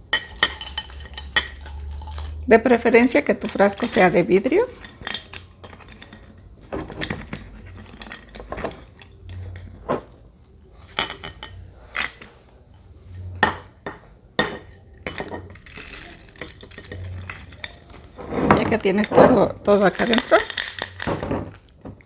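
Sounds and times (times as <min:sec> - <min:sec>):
clinks against glass jar: 0:00.1 - 0:09.6, 0:10.8 - 0:12.2, 0:13.0 - 0:21.4.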